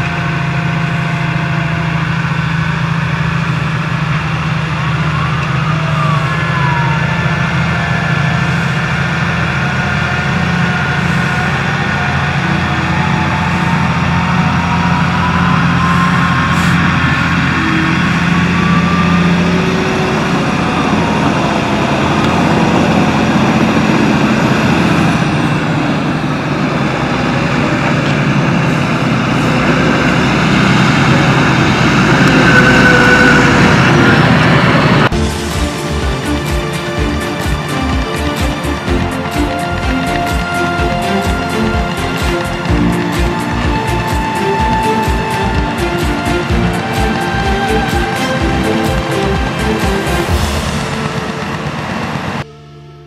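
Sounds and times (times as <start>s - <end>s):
tractor diesel engine under load: 0.0s - 52.5s
whine gliding in pitch: 0.0s - 53.0s.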